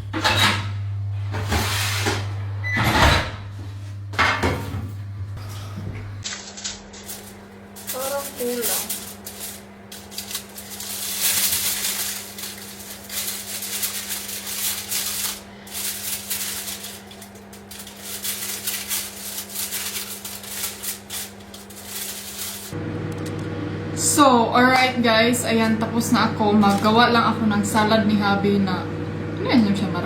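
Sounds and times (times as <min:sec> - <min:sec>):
constant low hum: 0:00.0 - 0:30.0.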